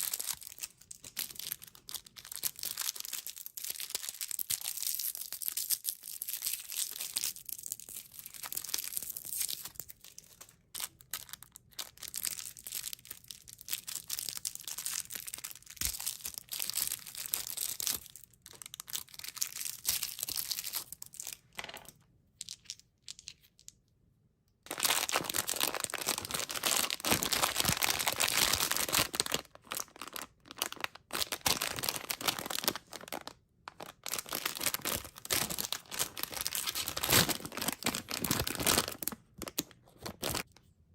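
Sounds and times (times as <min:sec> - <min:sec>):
candy wrappers crinkling and tearing: 0:00.0 - 0:21.4, 0:24.7 - 0:40.6.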